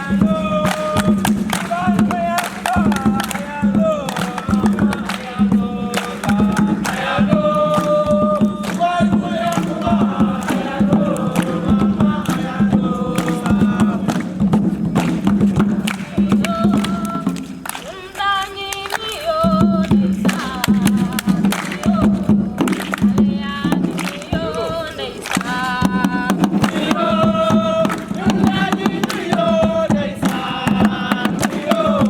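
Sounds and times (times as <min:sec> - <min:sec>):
sharp percussive beat: 0:00.0 - 0:18.3, 0:19.0 - 0:32.0
group singing and chanting: 0:00.0 - 0:32.0.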